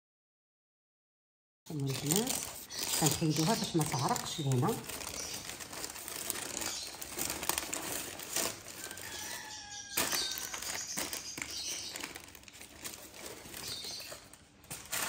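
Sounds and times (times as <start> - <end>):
baking paper rustling and crinkling: 1.7 - 15.0.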